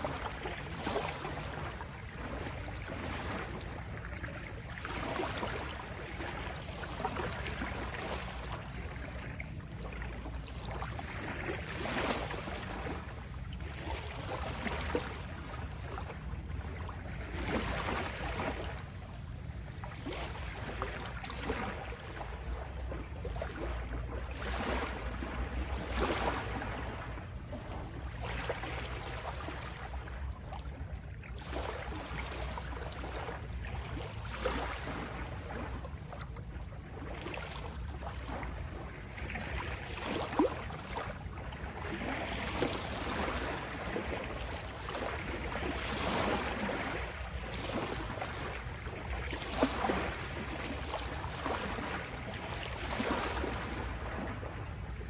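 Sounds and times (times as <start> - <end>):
waves lapping on shore: 0.0 - 55.0.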